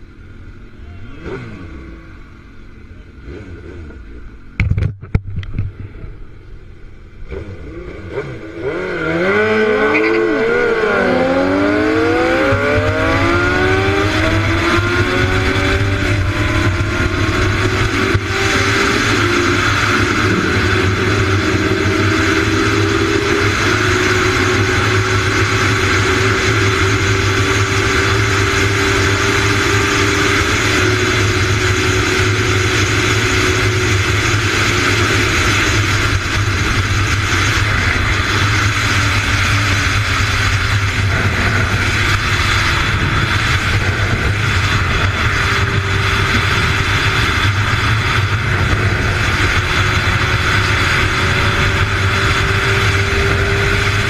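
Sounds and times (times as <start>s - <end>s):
motorcycle engine accelerating: 0.0s - 54.0s
wind rush on microphone: 10.6s - 54.0s.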